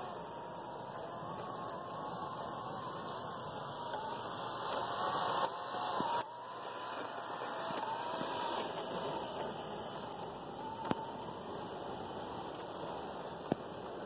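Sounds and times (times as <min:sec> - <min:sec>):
toy train motor whirring: 0:00.0 - 0:14.0
wheels clicking over rail joints: 0:00.0 - 0:14.0.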